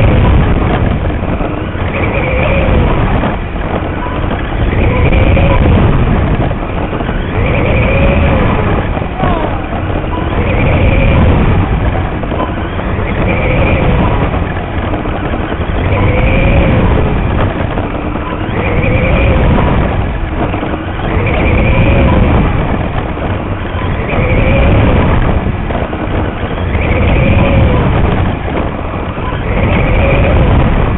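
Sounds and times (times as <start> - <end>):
wind and track noise rumble: 0.0 - 30.9.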